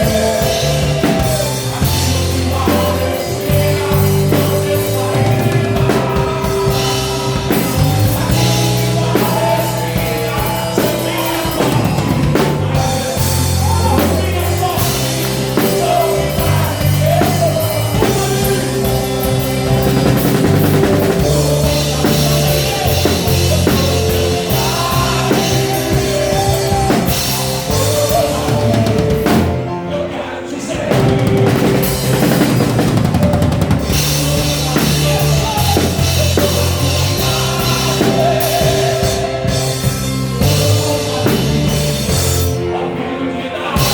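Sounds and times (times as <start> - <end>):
drum kit and cymbals: 0.0 - 29.9, 30.9 - 42.8
electric bass line: 0.0 - 29.9, 30.9 - 43.0
rock band playing: 0.0 - 43.9.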